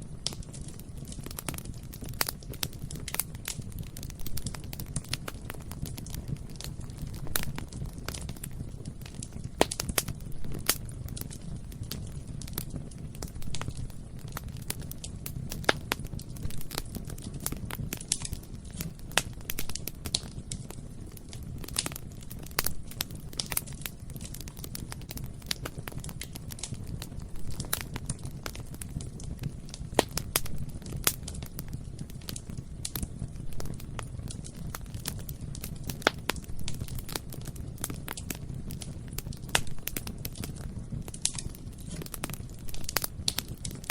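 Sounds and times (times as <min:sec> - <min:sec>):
crackling and popping wood: 0:00.0 - 0:43.9
low rumble of flame: 0:00.0 - 0:43.9.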